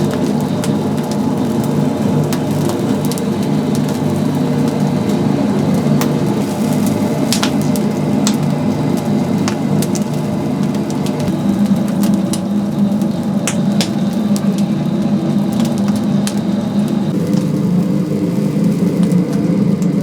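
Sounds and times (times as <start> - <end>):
firewood crackling and popping: 0.0 - 20.0
steady low hum: 0.0 - 20.0.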